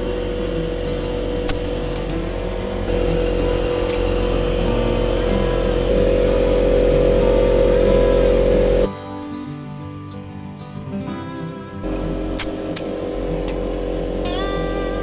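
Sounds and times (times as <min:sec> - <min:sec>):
motor vehicle droning: 0:00.0 - 0:08.9, 0:11.8 - 0:15.0.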